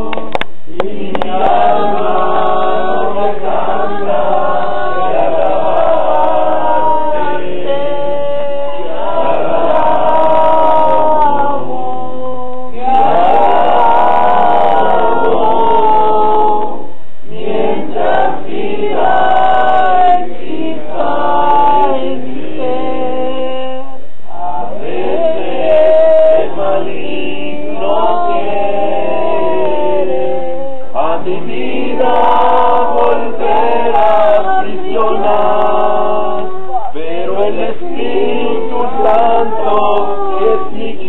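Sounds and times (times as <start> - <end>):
group singing a praise song: 0.0 - 41.0.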